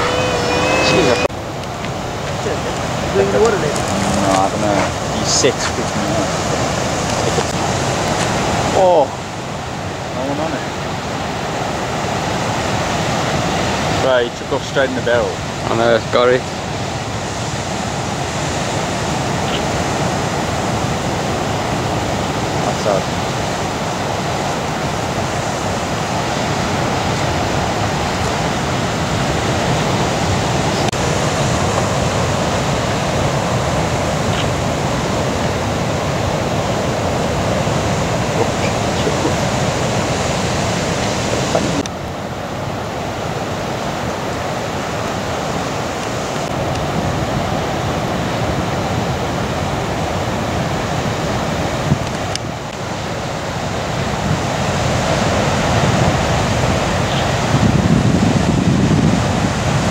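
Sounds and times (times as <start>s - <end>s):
heavy ocean surf breaking: 0.0s - 59.9s.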